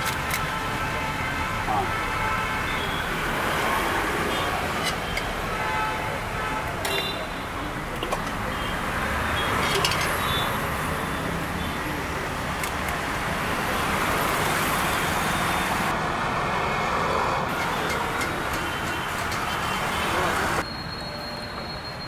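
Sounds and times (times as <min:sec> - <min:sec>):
roadside traffic noise: 0:00.0 - 0:22.0.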